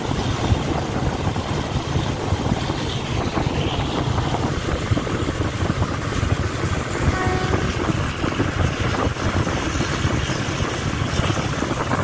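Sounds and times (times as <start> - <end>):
rushing air: 0.0 - 12.0
train wheels rumbling on rails: 0.0 - 12.0.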